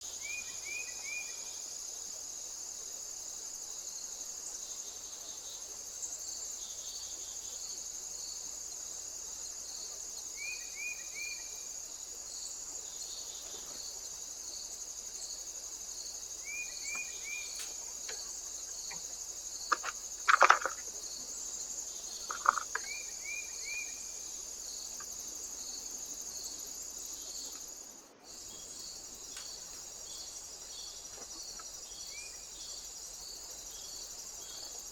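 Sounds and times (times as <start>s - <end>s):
high insect chorus: 0.0s - 34.9s.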